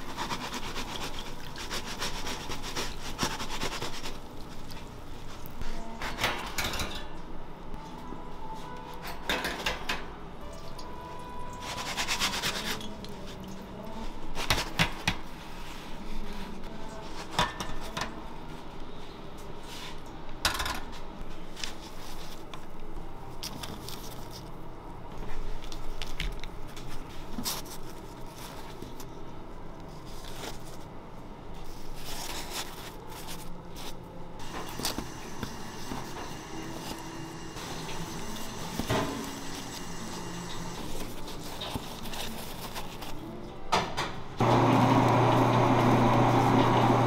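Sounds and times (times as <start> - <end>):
faint kitchen hum: 0.0 - 47.0.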